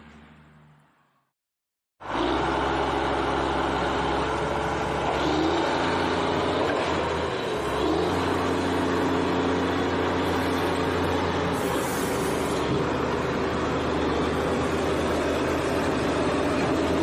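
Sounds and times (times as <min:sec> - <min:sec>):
vehicle engine running: 0:00.0 - 0:01.3, 0:02.0 - 0:17.0.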